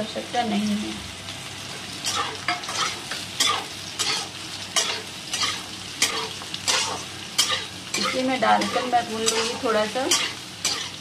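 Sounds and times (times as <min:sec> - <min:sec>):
frying sizzle: 0:00.0 - 0:11.0
metal spatula scraping pan: 0:02.0 - 0:11.0.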